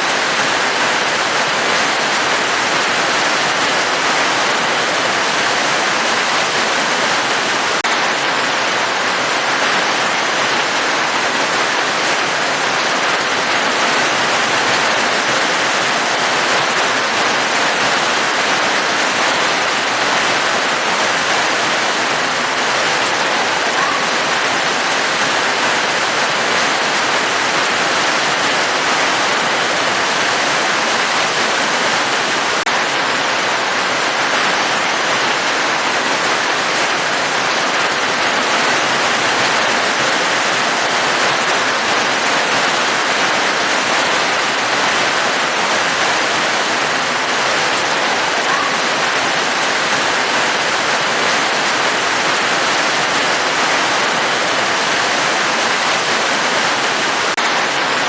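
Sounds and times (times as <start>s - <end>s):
dense rainfall: 0.0s - 58.0s.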